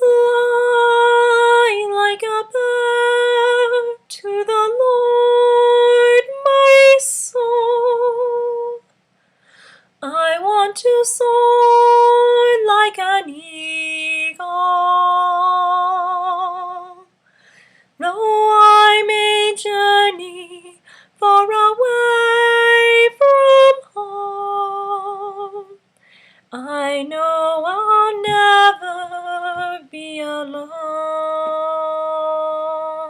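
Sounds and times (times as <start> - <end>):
woman singing hymn unaccompanied: 0.0 - 8.8, 10.0 - 17.1, 18.0 - 25.8, 26.5 - 33.0.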